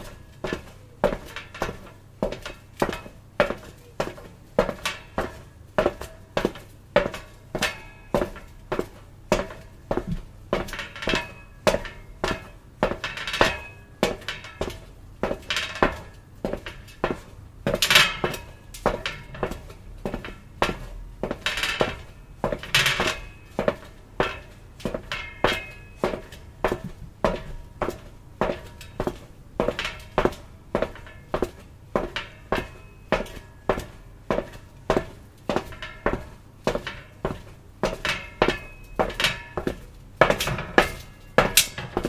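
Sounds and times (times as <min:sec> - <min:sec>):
footsteps on metal: 0:00.0 - 0:42.0.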